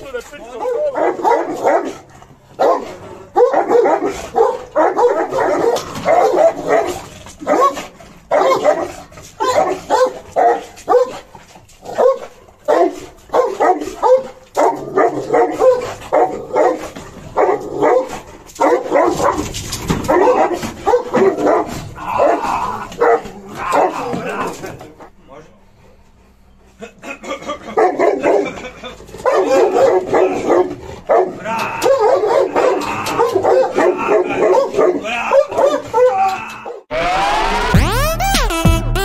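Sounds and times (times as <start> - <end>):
dog barking loudly: 0.5 - 24.7, 27.6 - 36.8.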